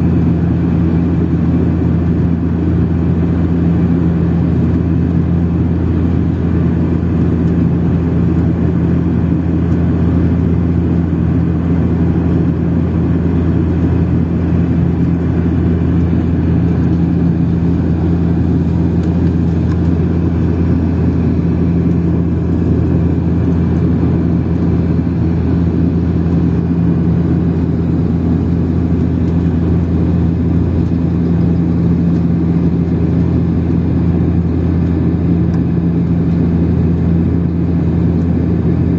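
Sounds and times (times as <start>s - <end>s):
airliner engine hum: 0.0s - 38.9s.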